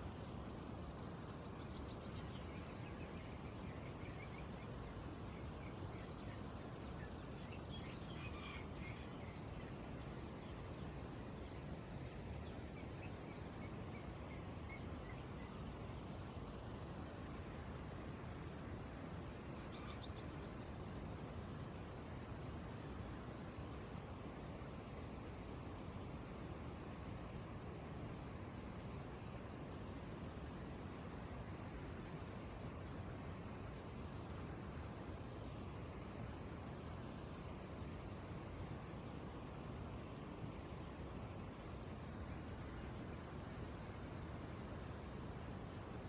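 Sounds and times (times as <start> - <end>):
steady background noise: 0.0 - 46.0.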